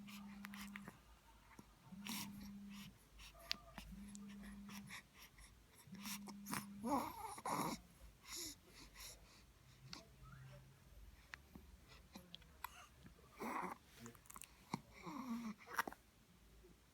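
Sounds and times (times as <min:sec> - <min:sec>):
soft breathing: 0:00.0 - 0:16.0
low steady hum: 0:00.0 - 0:16.9.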